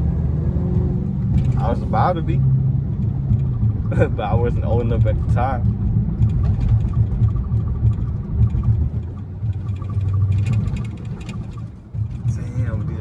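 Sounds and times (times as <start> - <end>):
car engine and exhaust droning: 0.0 - 13.0
road rumble: 0.0 - 13.0.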